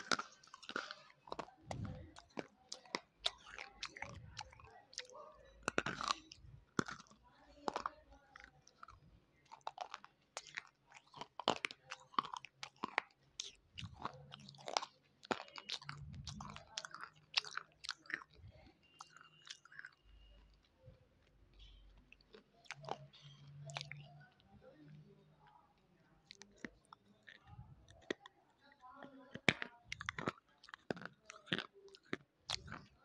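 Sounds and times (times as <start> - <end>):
pencil being chewed crunching: 0.0 - 33.0.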